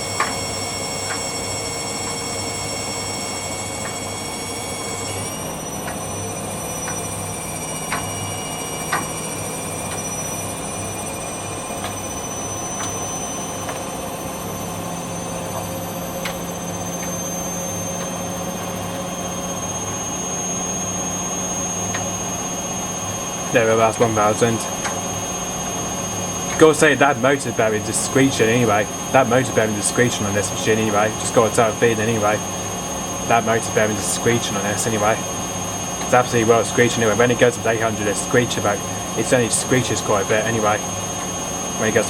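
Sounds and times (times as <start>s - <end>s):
high-pitched screeching whine: 0.0s - 42.0s
washing machine motor hum: 0.0s - 42.0s.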